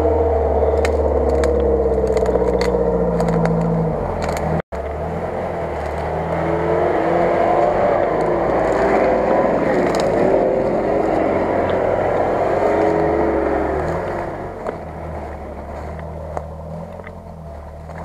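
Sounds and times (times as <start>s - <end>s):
off-road engine running under load: 0.0s - 18.0s
branches scraping against bodywork: 0.7s - 18.0s.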